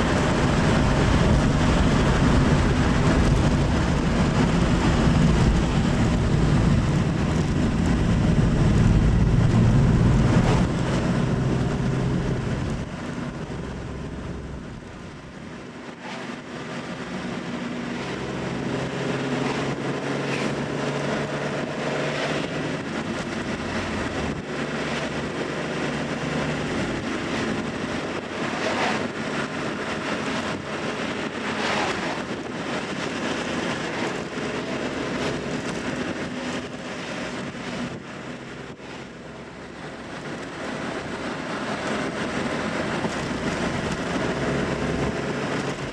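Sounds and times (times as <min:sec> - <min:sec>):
car engine and exhaust rumble: 0:00.0 - 0:45.9.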